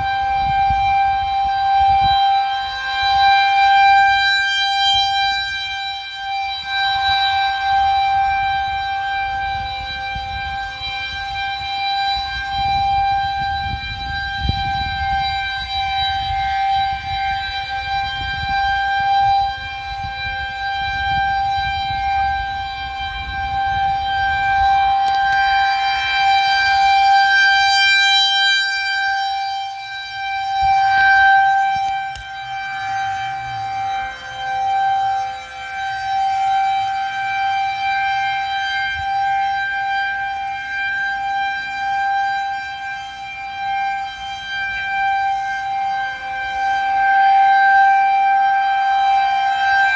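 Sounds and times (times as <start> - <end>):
rotating warning siren: 0.0 - 49.9.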